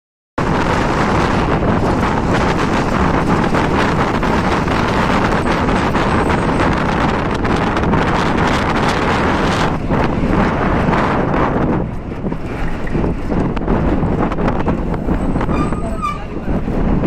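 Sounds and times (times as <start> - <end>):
bus rumbling along road: 0.4 - 17.0
wind buffeting microphone: 0.4 - 17.0.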